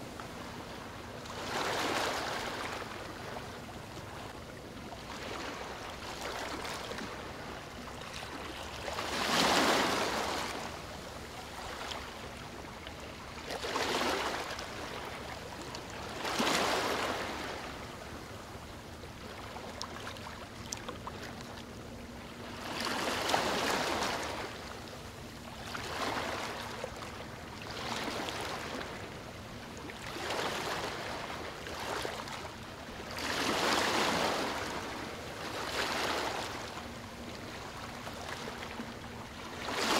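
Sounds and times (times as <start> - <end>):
small waves lapping: 0.0 - 39.9.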